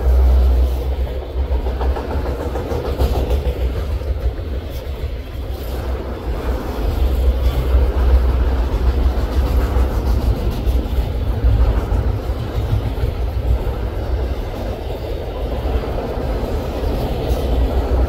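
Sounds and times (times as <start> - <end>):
freight cars rolling on rails: 0.0 - 18.0.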